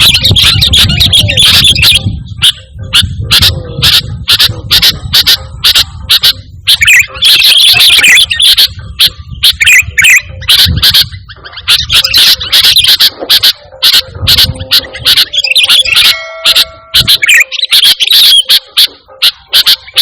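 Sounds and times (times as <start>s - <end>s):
bird chirping and warbling: 0.0s - 20.0s.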